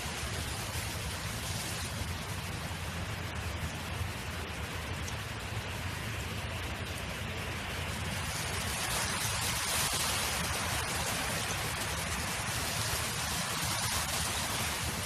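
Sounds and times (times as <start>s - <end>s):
wind blowing: 0.0s - 15.0s.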